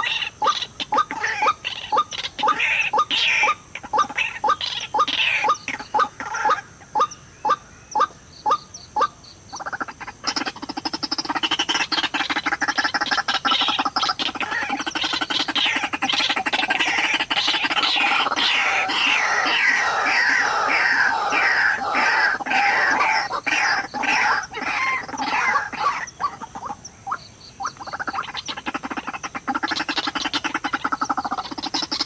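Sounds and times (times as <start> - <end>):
waterhen calling: 0.0 - 32.0.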